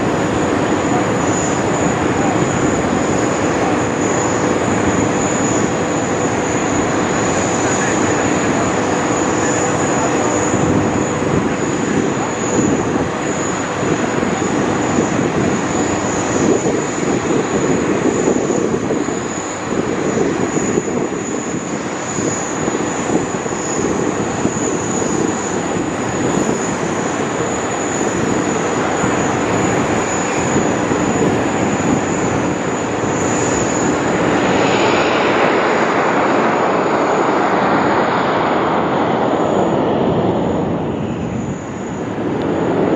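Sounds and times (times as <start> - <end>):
jet engines in flight: 0.0 - 42.9.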